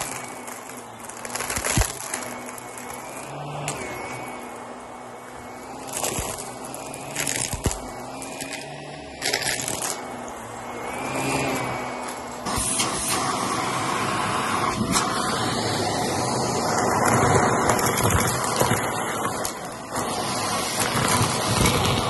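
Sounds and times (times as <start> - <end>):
crackling bursts: 0.0 - 22.0
vacuum cleaner on carpet: 0.0 - 22.0.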